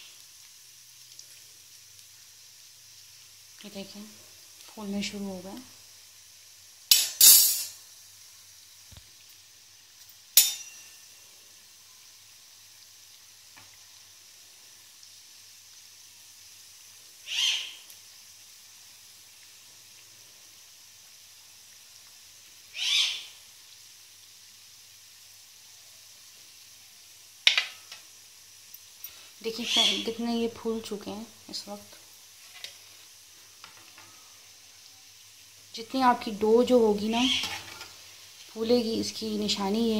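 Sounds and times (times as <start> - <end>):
dough sizzling in hot oil: 0.0 - 39.9
spatula swishing in sizzling oil: 0.0 - 39.9.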